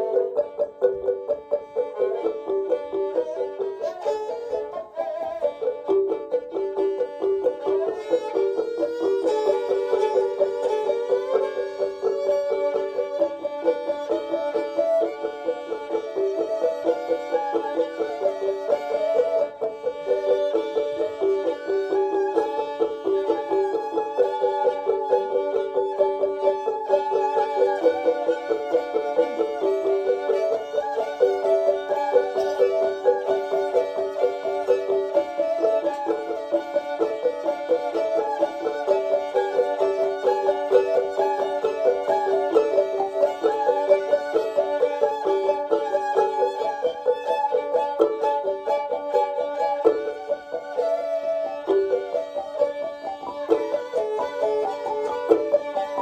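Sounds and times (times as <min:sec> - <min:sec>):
twanging melody: 0:00.0 - 0:56.0.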